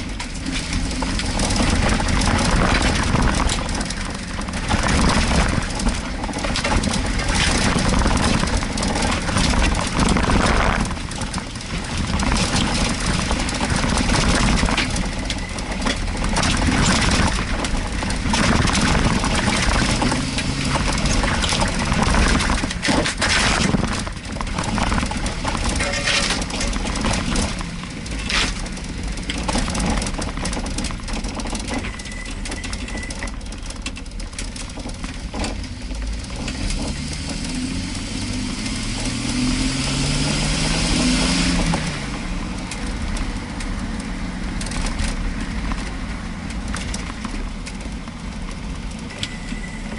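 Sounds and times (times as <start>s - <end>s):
car engine running: 0.0s - 49.9s
knocks and rattles over bumps: 0.0s - 49.9s.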